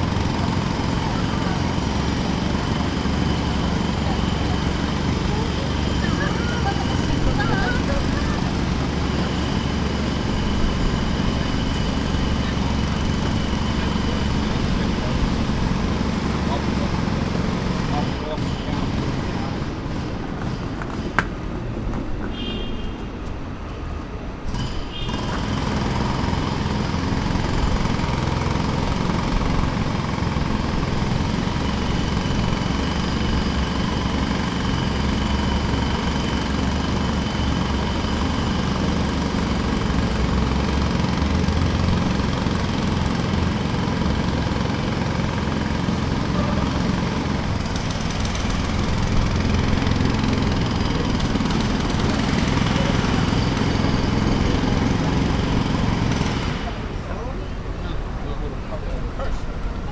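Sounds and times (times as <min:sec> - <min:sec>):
jackhammer hammering: 0:00.0 - 0:21.5, 0:24.4 - 0:57.4.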